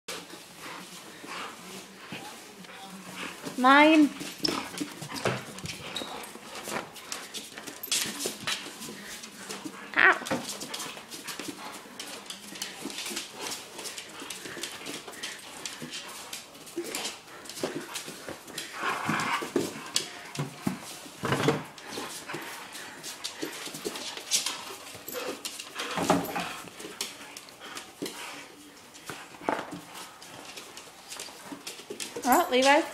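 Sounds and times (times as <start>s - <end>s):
dogs scuffling on wood floor: 0.1s - 32.9s.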